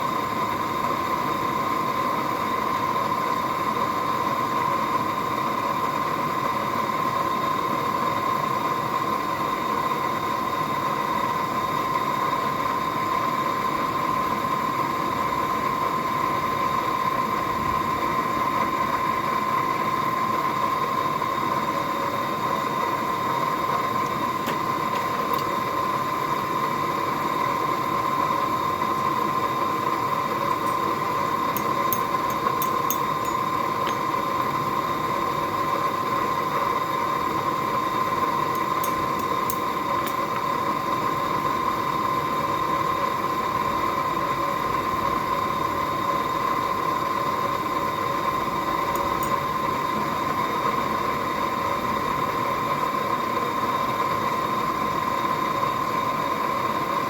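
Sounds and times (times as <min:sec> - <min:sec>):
forge humming with high whine: 0:00.0 - 0:57.0.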